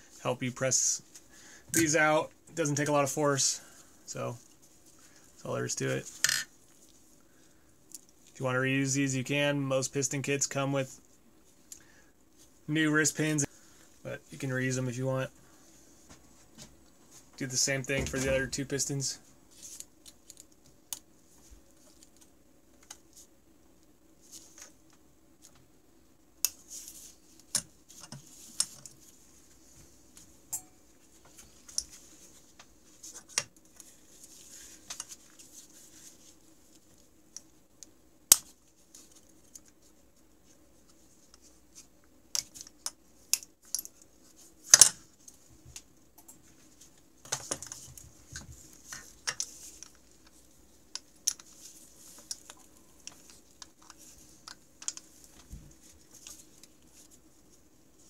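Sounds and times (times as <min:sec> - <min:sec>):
rubber gloves rustling: 0:00.0 - 0:09.1, 0:15.4 - 0:58.0.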